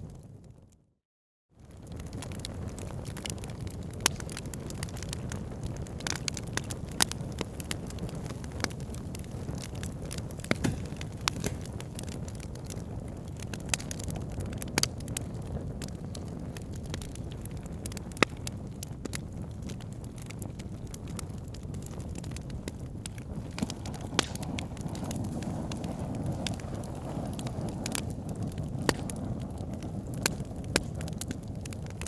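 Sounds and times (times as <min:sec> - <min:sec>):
wood fire crackling and popping: 0:01.6 - 0:32.0.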